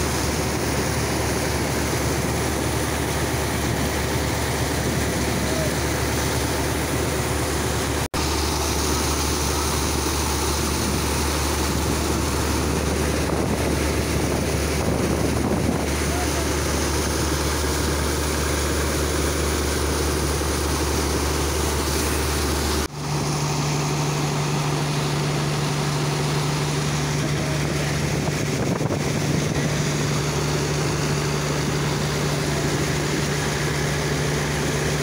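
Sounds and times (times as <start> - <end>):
high-pressure water jets splashing: 0.0 - 35.0
pump engine humming: 0.0 - 35.0.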